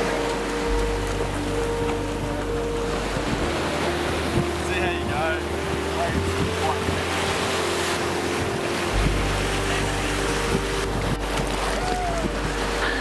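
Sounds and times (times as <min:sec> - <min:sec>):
small waves breaking at shore: 0:00.0 - 0:13.0
wind buffeting microphone: 0:00.0 - 0:13.0.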